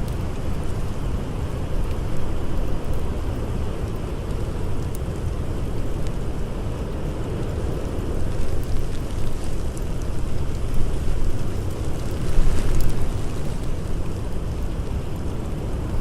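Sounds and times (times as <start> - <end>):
blizzard wind rumbling: 0.0 - 16.0
campfire crackling: 0.0 - 16.0.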